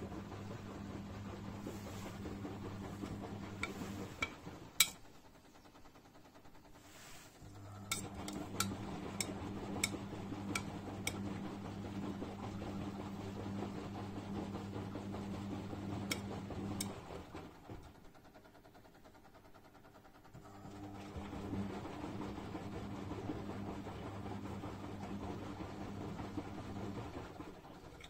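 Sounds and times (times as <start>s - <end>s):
washing machine motor humming: 0.0s - 28.0s.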